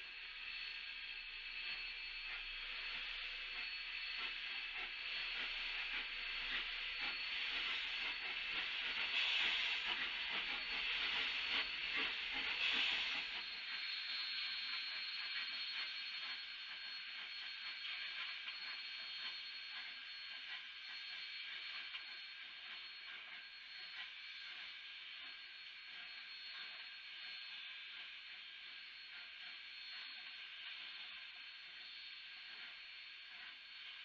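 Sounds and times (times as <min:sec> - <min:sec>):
steam locomotive hissing: 0:00.0 - 0:34.0.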